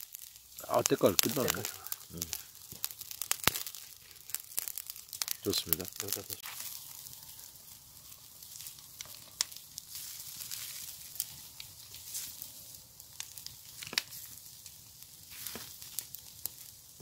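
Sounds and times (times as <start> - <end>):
bonfire popping: 0.0 - 17.0
meat sizzling on a grill: 0.0 - 17.0.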